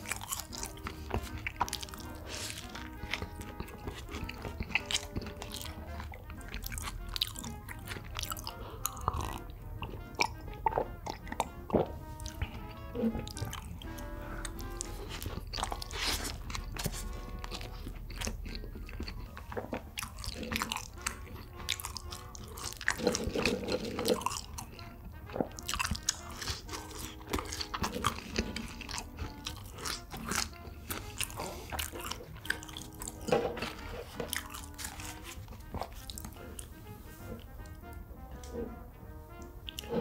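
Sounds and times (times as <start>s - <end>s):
crunching and chewing food: 0.0s - 40.0s.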